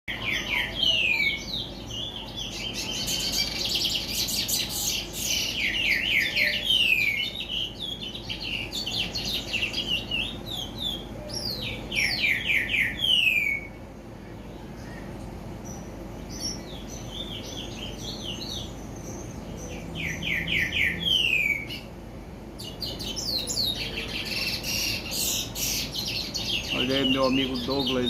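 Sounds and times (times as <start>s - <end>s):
finch singing whistles and trills: 0.1s - 21.9s, 22.6s - 28.0s.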